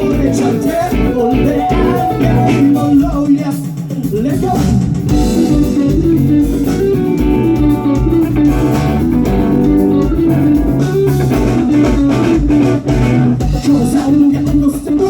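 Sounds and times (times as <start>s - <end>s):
bass guitar: 0.0s - 3.3s, 4.2s - 15.0s
electric guitar: 0.0s - 3.3s, 5.0s - 15.0s
steady drum beat: 0.0s - 15.0s.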